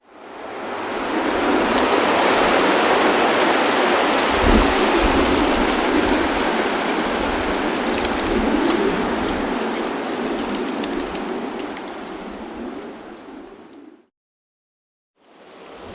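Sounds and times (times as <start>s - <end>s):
wind rustling dry leaves: 0.0s - 14.1s, 15.2s - 15.9s
low gust of wind: 0.5s - 14.0s, 15.6s - 15.9s.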